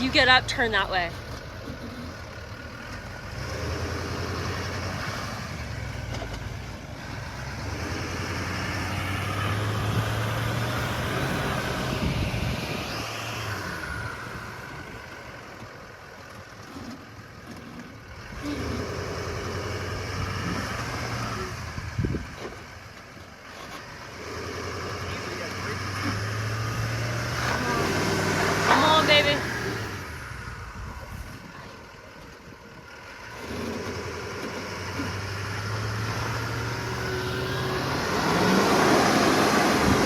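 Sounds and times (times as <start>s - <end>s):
pickup engine revving under load: 0.0s - 40.0s.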